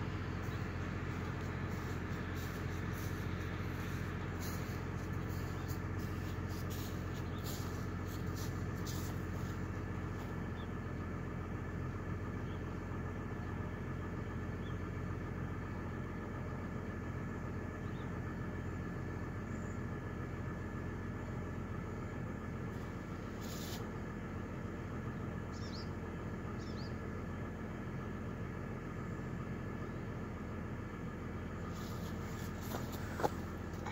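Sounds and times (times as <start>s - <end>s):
car exhaust idling drone: 0.0s - 33.9s.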